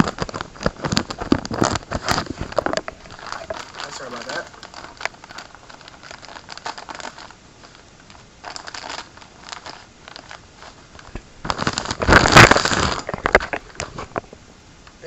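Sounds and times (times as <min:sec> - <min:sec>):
packaging crinkling: 0:00.0 - 0:14.3.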